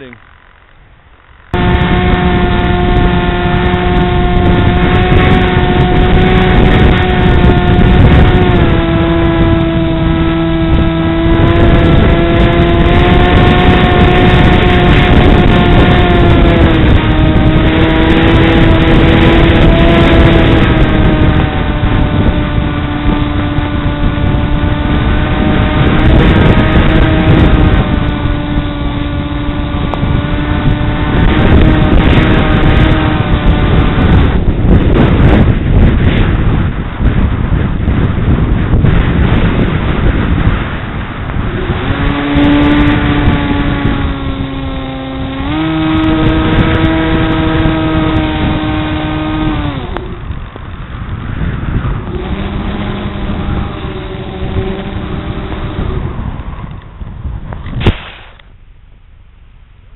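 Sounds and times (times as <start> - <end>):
model airplane electric motor whining: 0.0 - 57.8.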